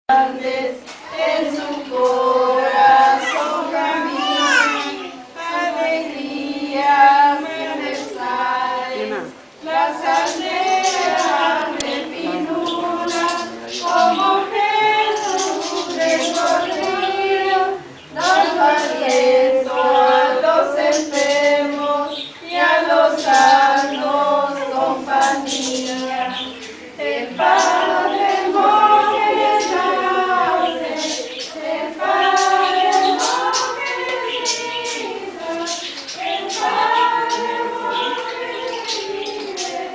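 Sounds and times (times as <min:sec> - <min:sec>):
women and girls singing: 0:00.1 - 0:39.9.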